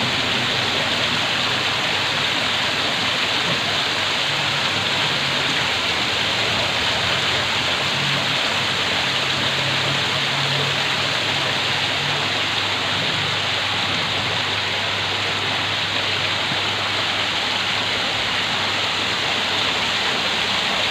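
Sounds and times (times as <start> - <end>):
water splashing into pond: 0.0 - 20.9.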